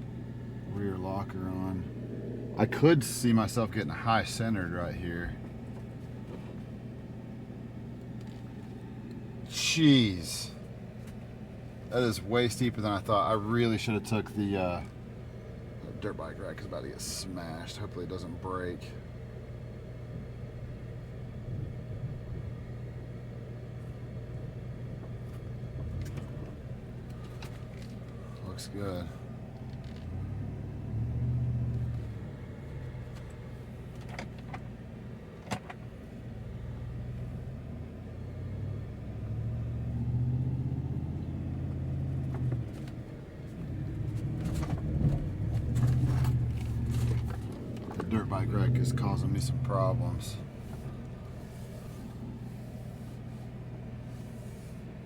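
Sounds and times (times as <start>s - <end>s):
truck engine droning under load: 0.0s - 55.0s.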